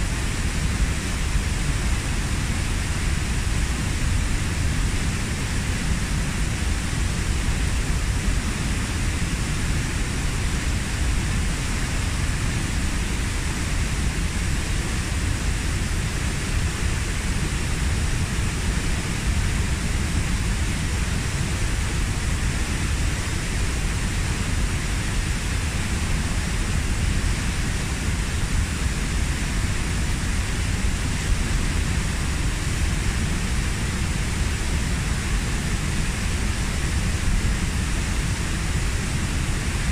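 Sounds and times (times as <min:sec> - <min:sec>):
waterfall roaring: 0:00.1 - 0:39.9.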